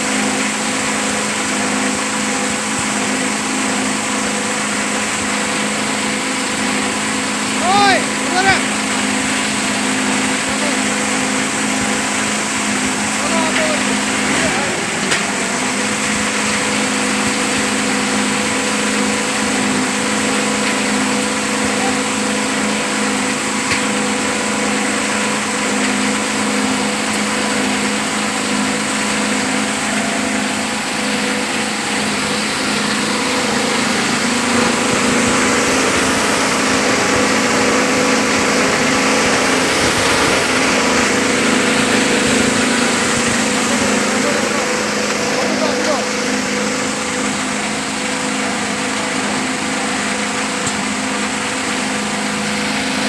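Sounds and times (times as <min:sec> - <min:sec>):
grinder machine humming and rushing: 0:00.0 - 0:53.0.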